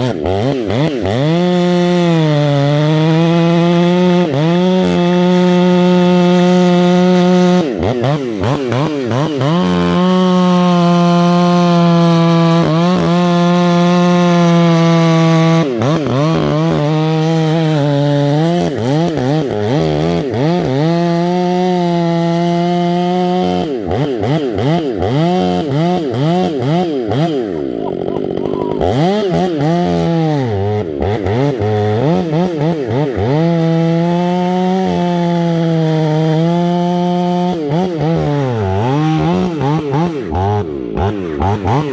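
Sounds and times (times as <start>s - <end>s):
chainsaw cutting tree stump: 0.0s - 41.9s.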